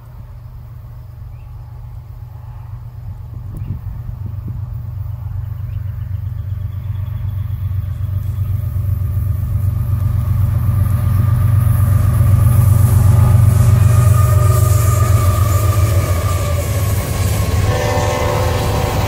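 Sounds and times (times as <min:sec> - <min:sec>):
locomotive engine rumble: 0:00.0 - 0:19.0
rail and wheel noise: 0:00.0 - 0:19.0.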